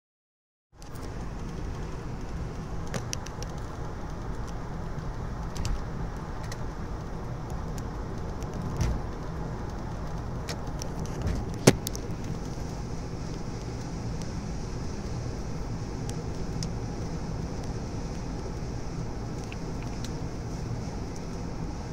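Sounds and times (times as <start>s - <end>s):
road and wind noise in car: 0.7s - 21.9s.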